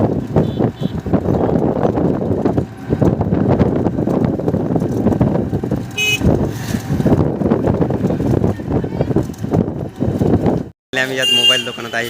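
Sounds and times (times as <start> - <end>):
wind rumbling on microphone: 0.0 - 10.7
moving vehicle noise: 0.0 - 12.0.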